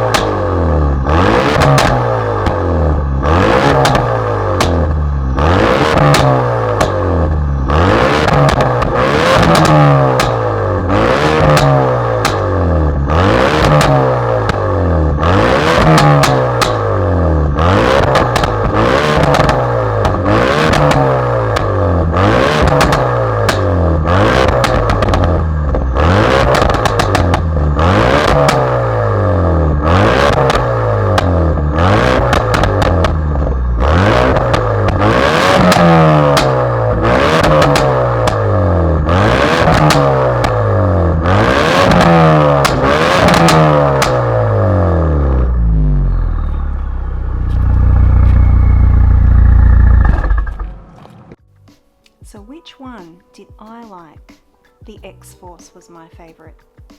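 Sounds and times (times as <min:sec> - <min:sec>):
car engine revving: 0:00.0 - 0:51.6
exhaust cracks: 0:00.0 - 0:51.9.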